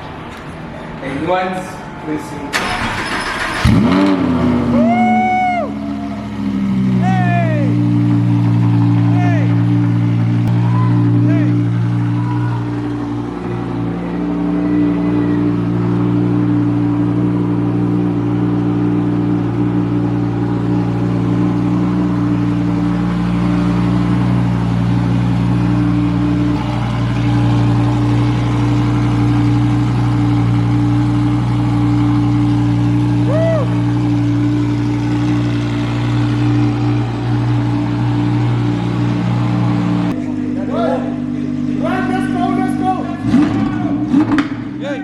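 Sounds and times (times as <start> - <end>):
car engine running: 2.0 - 45.0.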